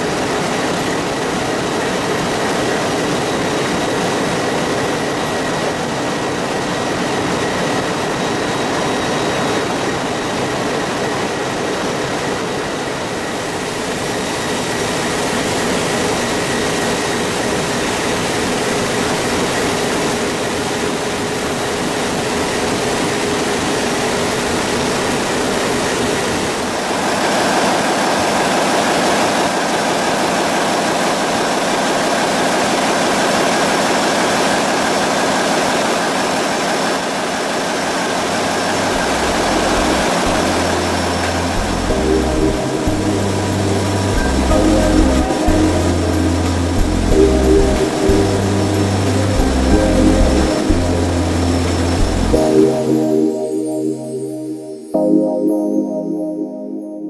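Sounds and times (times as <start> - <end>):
ship engine room machinery: 0.0 - 52.4.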